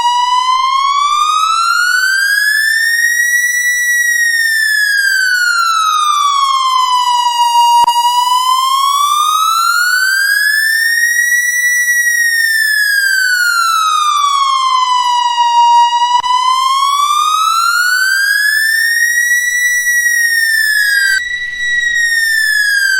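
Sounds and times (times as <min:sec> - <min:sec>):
police siren wailing: 0:00.0 - 0:22.9.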